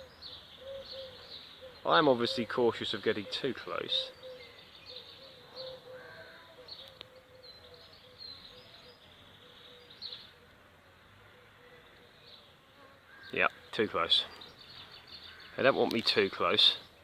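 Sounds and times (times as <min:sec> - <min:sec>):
bird chirps: 0:00.0 - 0:10.6, 0:13.2 - 0:17.0.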